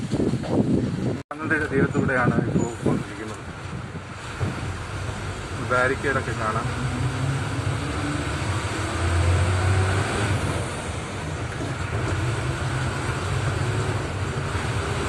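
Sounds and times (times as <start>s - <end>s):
bus engine running: 0.0s - 15.0s
road noise: 0.0s - 15.0s.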